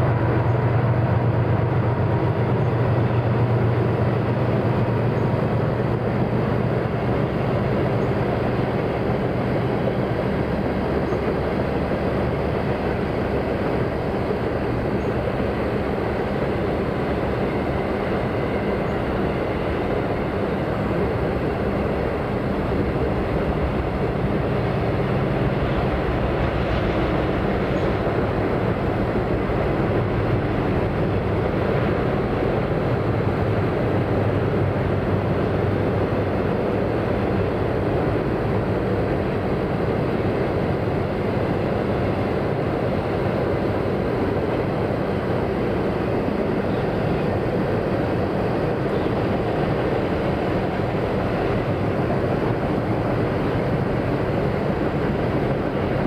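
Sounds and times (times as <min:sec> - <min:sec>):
train wheels rolling on track: 0:00.0 - 0:56.0.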